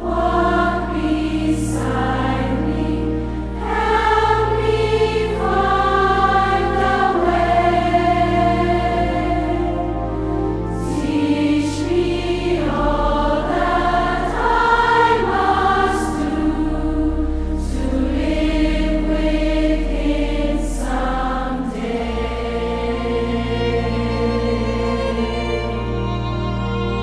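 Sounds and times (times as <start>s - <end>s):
choir singing slow chords: 0.0s - 27.0s
steady low notes: 0.0s - 27.0s.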